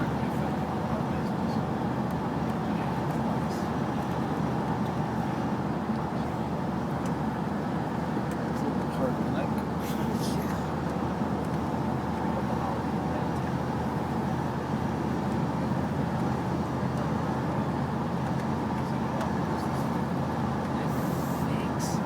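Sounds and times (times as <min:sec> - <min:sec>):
van rumble inside cabin: 0:00.0 - 0:22.0.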